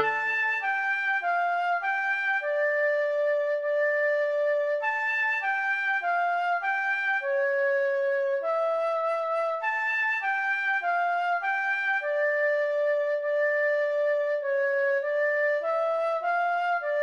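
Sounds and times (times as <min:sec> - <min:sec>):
sampled flute melody: 0:00.0 - 0:17.0.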